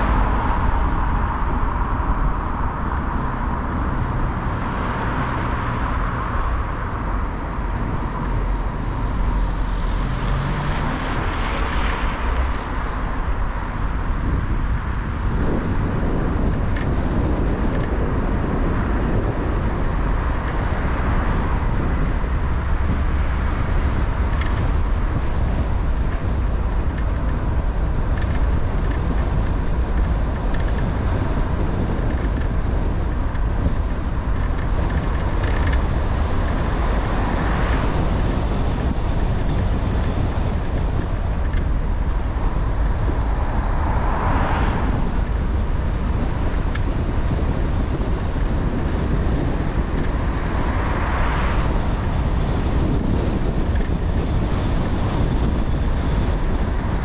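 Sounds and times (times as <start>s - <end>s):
car tyre and engine noise: 0.0s - 57.0s.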